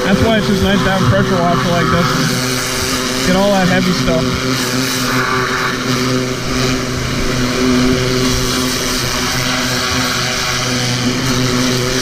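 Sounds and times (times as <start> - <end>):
high-pressure spray jet hissing: 0.0 - 12.0
pressure washer engine running: 0.0 - 12.0.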